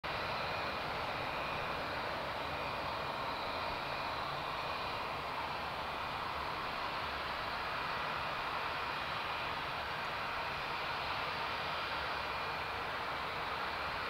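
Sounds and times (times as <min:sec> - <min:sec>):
faint high whine: 0:00.1 - 0:14.0
jet engines running: 0:00.1 - 0:14.0.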